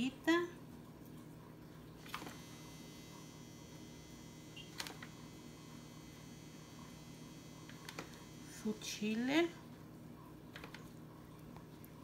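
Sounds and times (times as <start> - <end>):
room tone hum: 0.0 - 12.0.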